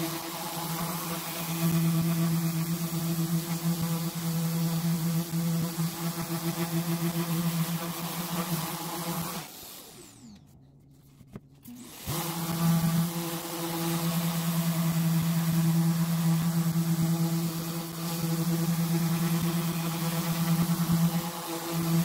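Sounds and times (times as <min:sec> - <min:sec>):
orbital sander running: 0:00.0 - 0:10.5, 0:11.6 - 0:22.0.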